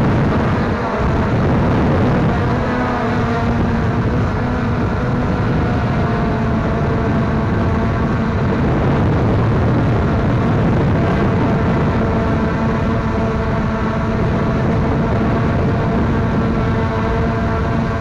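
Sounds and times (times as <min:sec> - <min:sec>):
drone motors humming: 0:00.0 - 0:18.0.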